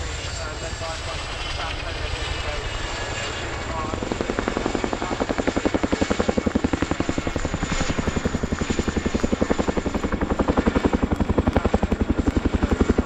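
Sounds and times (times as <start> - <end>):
helicopter rotor blade chop: 0.0 - 13.0
turbine whine: 0.0 - 13.0.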